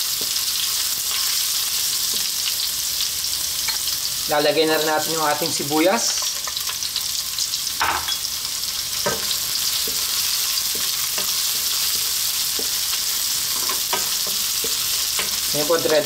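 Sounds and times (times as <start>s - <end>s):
aromatics sizzling in oil: 0.0s - 16.0s.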